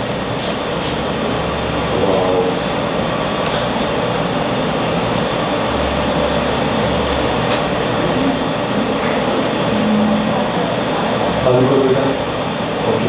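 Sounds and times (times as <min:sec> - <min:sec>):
loud background noise: 0:00.0 - 0:13.0.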